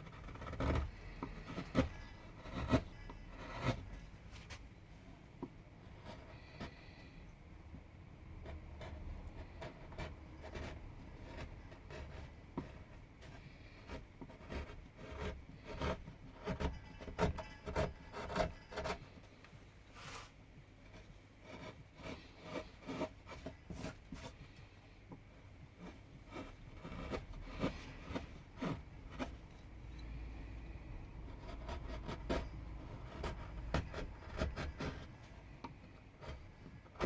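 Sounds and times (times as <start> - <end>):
carving tool scraping wood: 0.0 - 4.7, 5.4 - 7.3, 8.3 - 19.4, 20.0 - 37.0.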